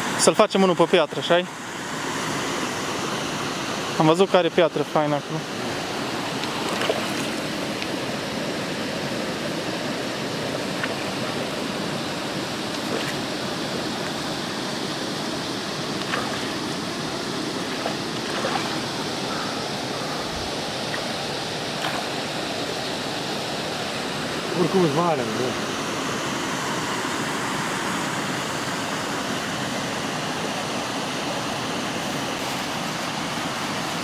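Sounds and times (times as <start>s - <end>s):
water running steadily: 2.4s - 34.0s.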